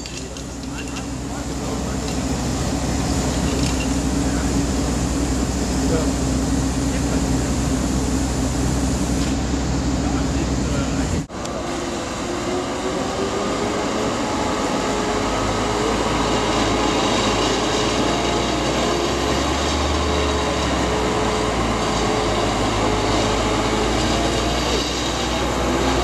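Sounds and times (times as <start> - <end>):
cable machinery drone: 0.0 - 26.0.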